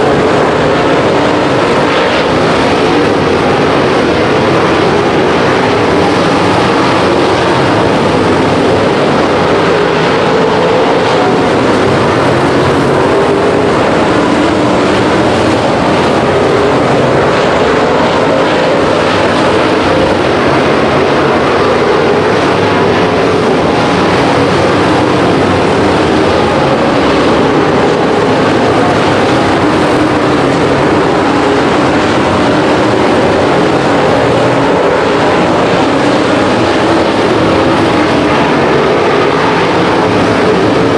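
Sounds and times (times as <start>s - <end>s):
race car engines roaring: 0.0s - 40.9s.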